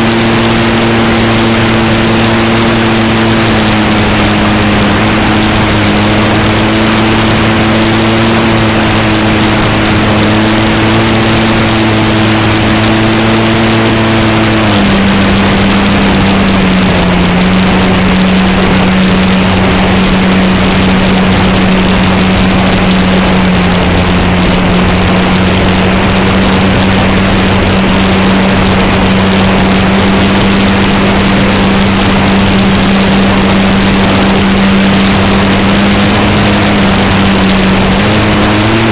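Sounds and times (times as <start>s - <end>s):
model plane motor droning: 0.0s - 38.9s
steady rushing noise: 0.0s - 38.9s.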